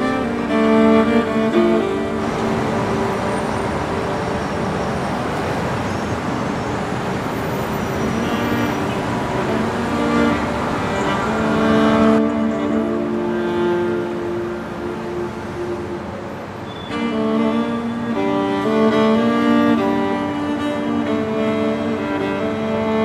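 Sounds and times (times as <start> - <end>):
cello music: 0.0 - 23.0
street traffic: 0.0 - 23.0.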